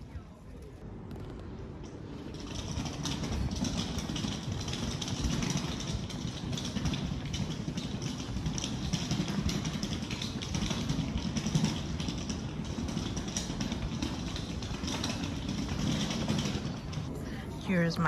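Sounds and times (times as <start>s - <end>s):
train rumbling: 0.8s - 18.0s.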